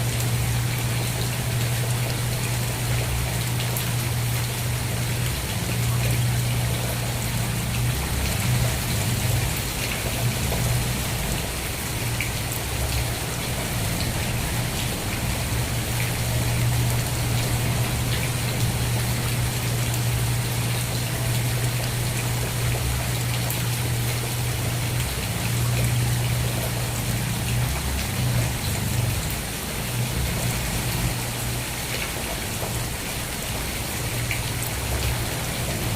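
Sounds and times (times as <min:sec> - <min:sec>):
raindrops ticking: 0:00.0 - 0:35.9
steady rain falling: 0:00.0 - 0:35.9.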